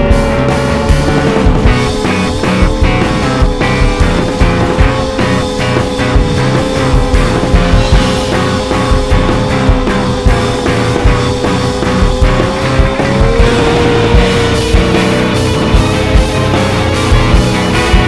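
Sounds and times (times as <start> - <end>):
rock music with drums and guitar: 0.0 - 18.0.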